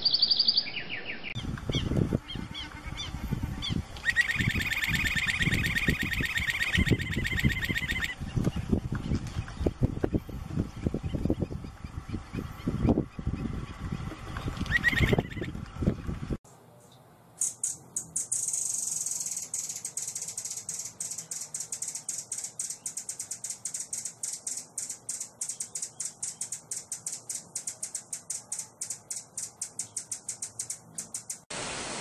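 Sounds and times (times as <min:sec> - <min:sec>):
bird singing rattling ticks: 0:01.4 - 0:16.1, 0:17.4 - 0:31.5.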